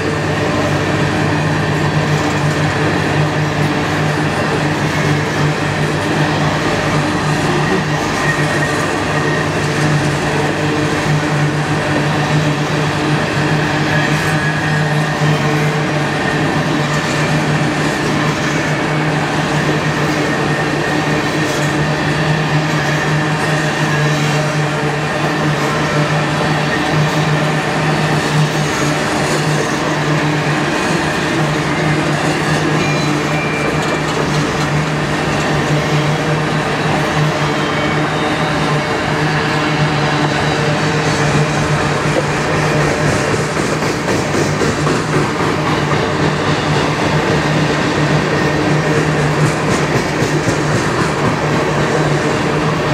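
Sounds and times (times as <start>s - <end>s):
steel train wheels rumbling on rail: 0.0s - 52.9s.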